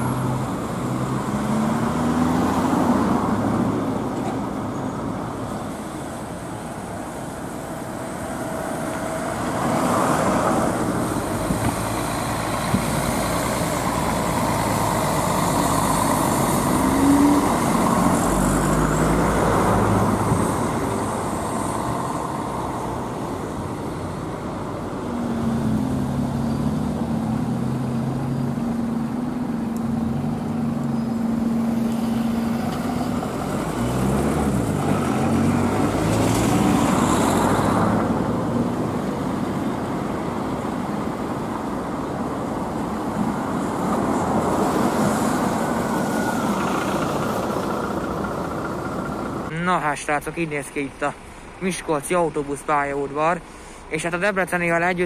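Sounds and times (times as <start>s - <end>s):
diesel bus engines: 0.0s - 55.0s
traffic noise: 0.0s - 55.0s.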